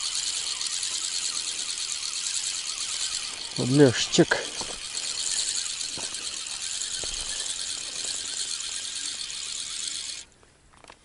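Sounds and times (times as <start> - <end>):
fishing reel whirring: 0.0 - 10.3
reel clicks: 0.0 - 11.0.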